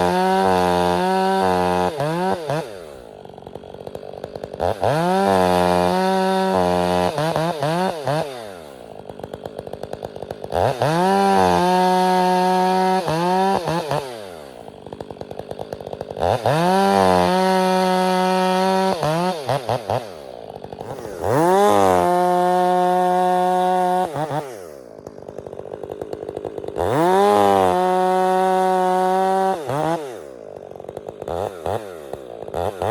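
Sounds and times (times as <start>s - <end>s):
chainsaw revving and idling: 0.0s - 32.9s.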